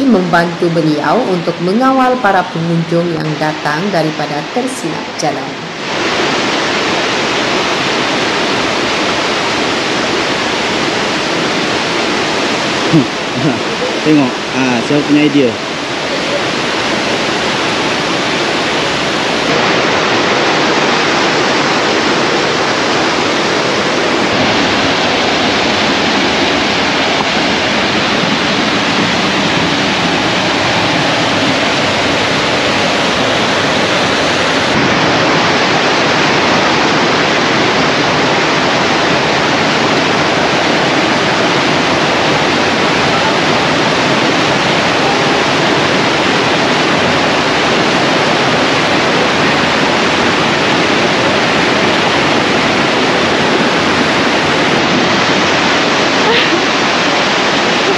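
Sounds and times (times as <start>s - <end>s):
river rushing over boulders: 0.0s - 57.9s.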